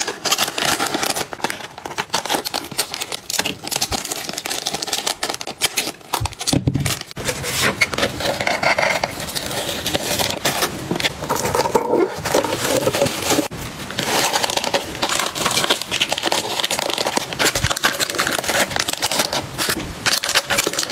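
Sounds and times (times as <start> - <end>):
plastic packaging crinkling: 0.0 - 20.9.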